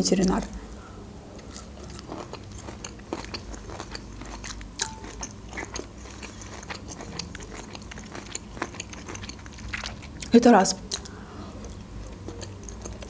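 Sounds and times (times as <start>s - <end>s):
person chewing: 0.6s - 13.0s.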